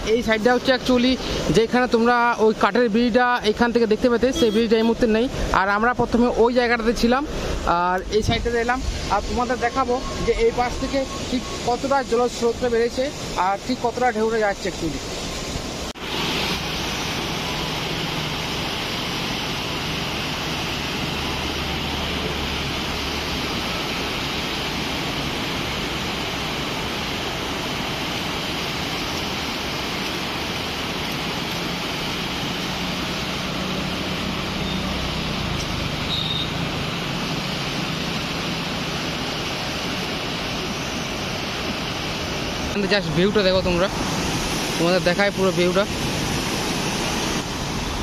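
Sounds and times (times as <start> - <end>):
fast river current roaring: 0.0 - 48.0.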